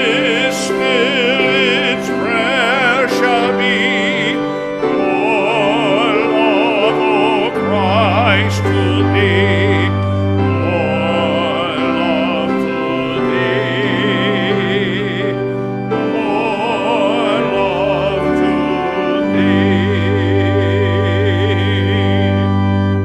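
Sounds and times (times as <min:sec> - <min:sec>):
organ chords: 0:00.0 - 0:23.0
solo melody with vibrato: 0:00.0 - 0:23.0.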